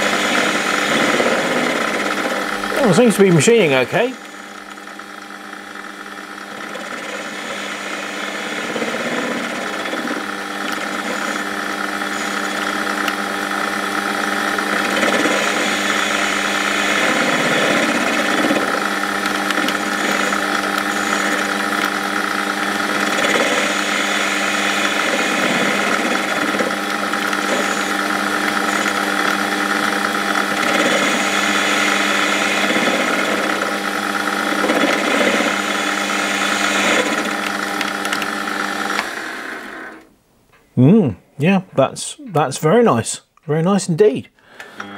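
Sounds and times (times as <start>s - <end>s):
lathe tool cutting metal: 0.0s - 40.1s
metal lathe humming: 0.0s - 40.1s.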